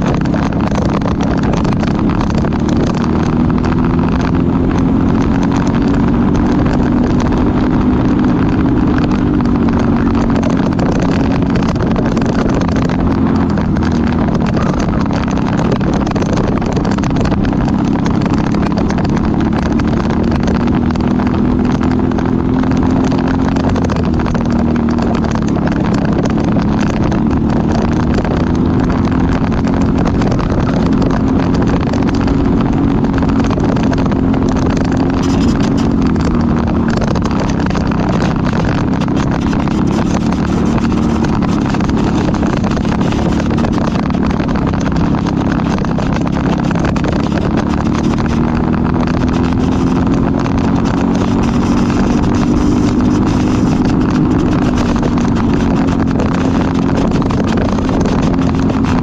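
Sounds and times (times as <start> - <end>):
kart engine running hard: 0.0 - 59.0.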